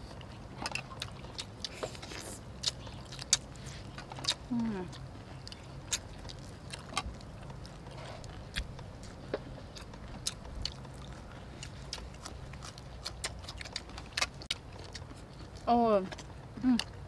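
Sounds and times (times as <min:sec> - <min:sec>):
low steady hum: 0:00.0 - 0:17.0
people chewing and lip smacking: 0:00.0 - 0:17.0.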